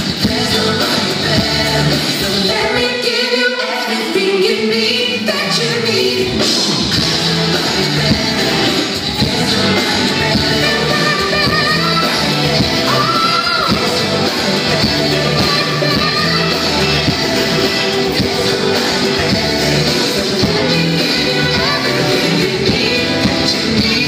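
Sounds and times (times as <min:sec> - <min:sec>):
song with beat and singing: 0:00.0 - 0:24.0.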